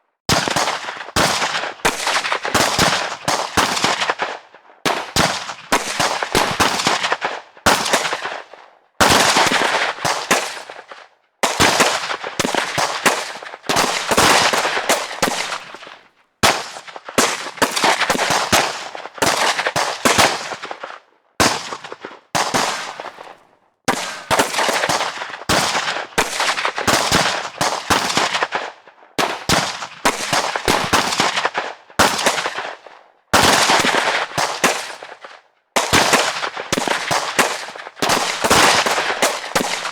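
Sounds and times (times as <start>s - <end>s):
gunfire bursts: 0.3s - 39.9s.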